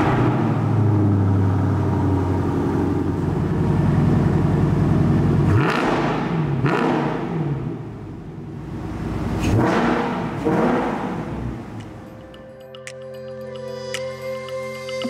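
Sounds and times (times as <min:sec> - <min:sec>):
car engine idling and revving: 0:00.0 - 0:12.5.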